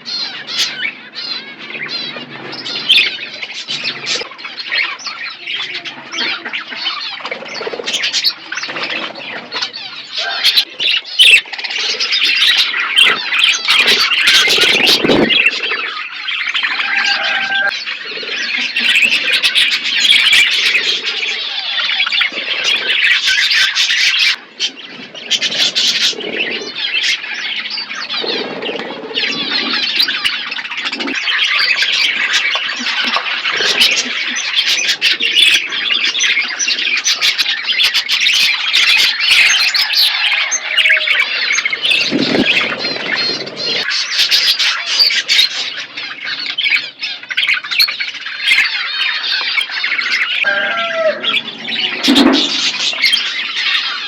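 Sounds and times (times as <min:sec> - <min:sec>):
parrots chattering and squawking: 0:00.0 - 0:54.0.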